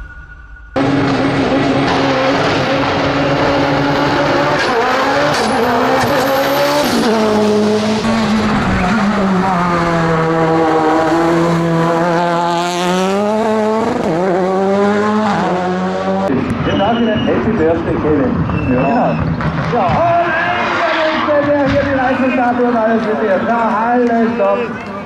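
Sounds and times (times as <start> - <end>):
race car engine: 0.7 - 25.0.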